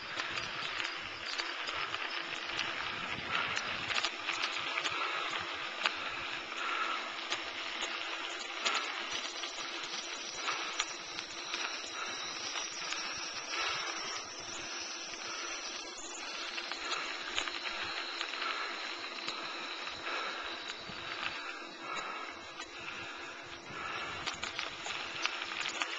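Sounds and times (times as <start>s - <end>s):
bicycle rolling on a trail: 0.0s - 25.9s
small clicks and rattles: 0.0s - 25.9s.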